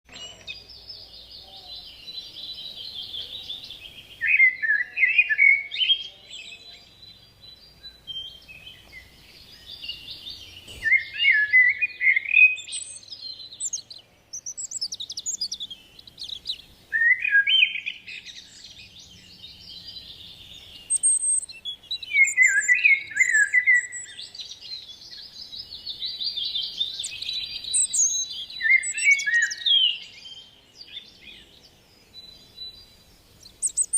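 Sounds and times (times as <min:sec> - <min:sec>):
songbirds chirping and singing: 0:00.1 - 0:33.9.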